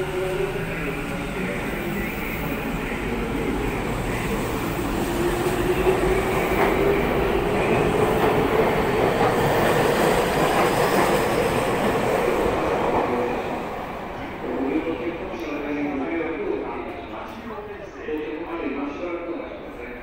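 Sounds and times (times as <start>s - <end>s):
train wheel and rail noise: 0.0s - 20.0s.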